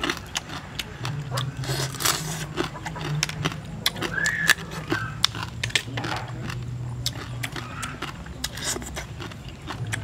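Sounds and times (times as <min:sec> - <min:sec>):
sucking and smacking eating: 0:00.0 - 0:10.0.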